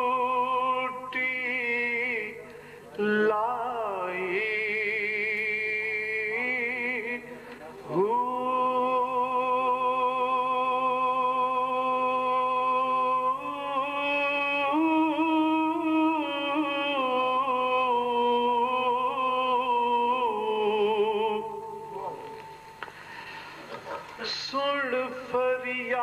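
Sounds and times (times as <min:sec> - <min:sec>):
man singing a long note: 0:00.0 - 0:22.7.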